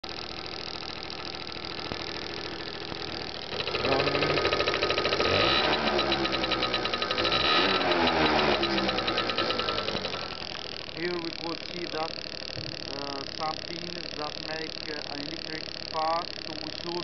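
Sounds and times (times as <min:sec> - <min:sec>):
scooter engine revving: 0:00.0 - 0:17.0
fast even ticking: 0:00.1 - 0:17.0.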